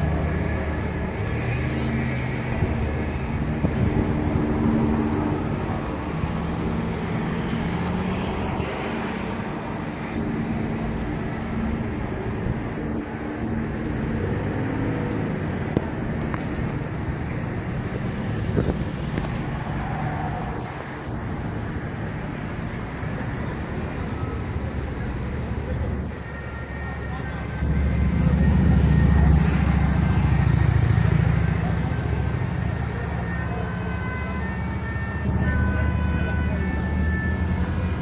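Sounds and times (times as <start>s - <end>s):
road noise: 0.0s - 38.0s
vehicle engines passing: 0.0s - 38.0s.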